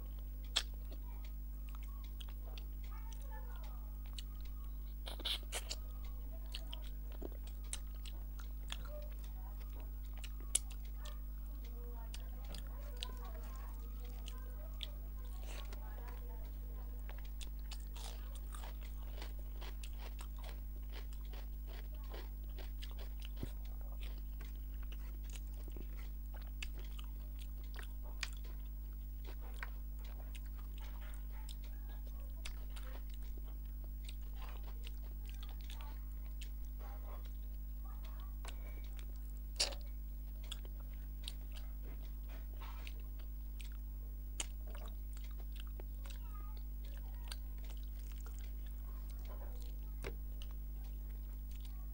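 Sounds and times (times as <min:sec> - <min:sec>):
low electrical hum: 0:00.0 - 0:51.9
wet chewing and crunching: 0:00.0 - 0:51.9.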